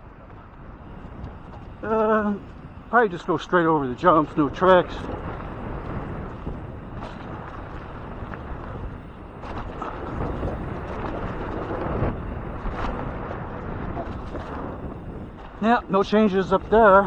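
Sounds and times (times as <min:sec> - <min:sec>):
bike tyres rolling on dirt: 0:00.0 - 0:17.0
wind on microphone: 0:00.0 - 0:17.0.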